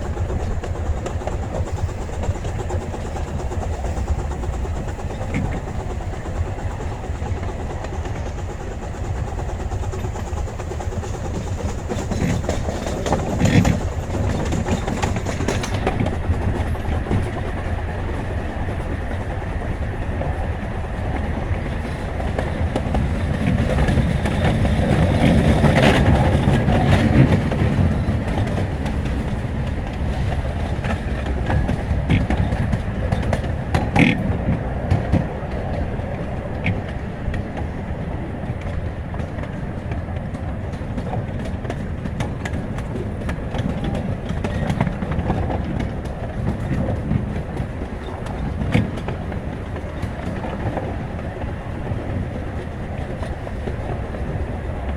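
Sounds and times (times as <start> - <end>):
train rumble: 0.0 - 54.9
wheels clacking over rail joints: 0.0 - 54.9.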